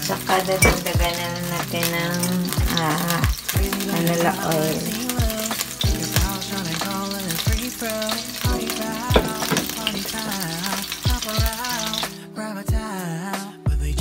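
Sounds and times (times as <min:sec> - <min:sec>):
oil sizzling in a pan: 0:00.0 - 0:12.3
r and b song with singing: 0:00.0 - 0:14.0.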